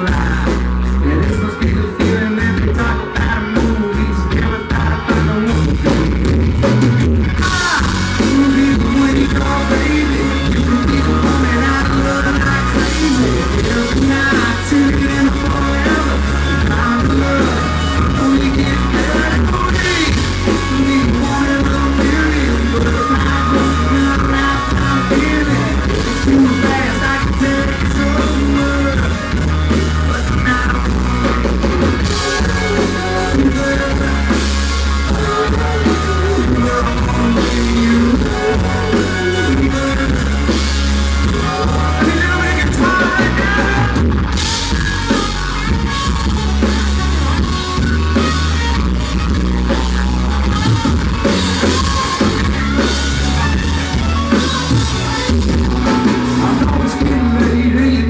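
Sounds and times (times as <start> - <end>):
live country band playing: 0.0 - 58.0.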